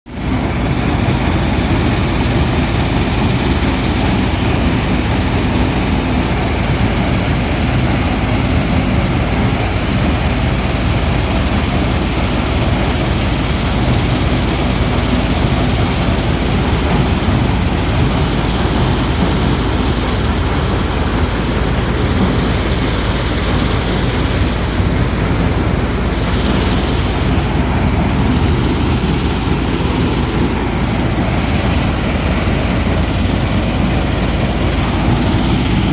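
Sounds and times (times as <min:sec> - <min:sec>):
dense rushing noise: 0:00.1 - 0:35.9
tractor engine running: 0:00.1 - 0:35.9.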